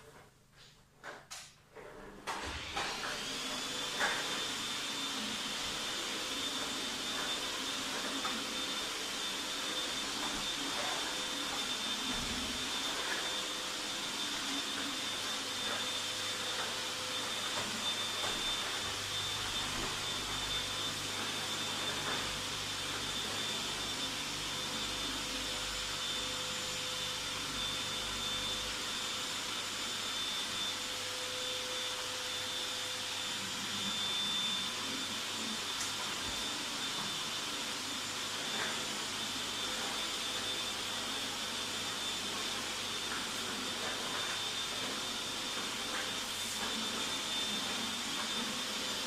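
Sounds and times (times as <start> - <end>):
vacuum cleaner whining: 0.0 - 49.0.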